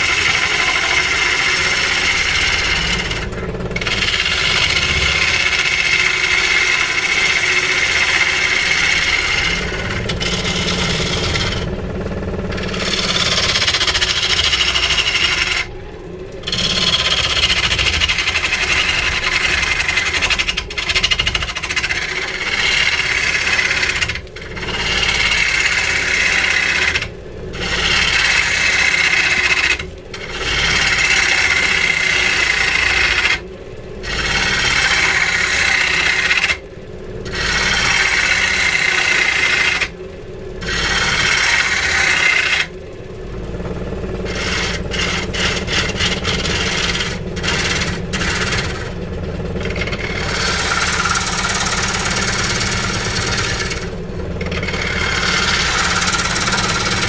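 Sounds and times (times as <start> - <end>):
tool rasping into wood: 0.0 - 57.0.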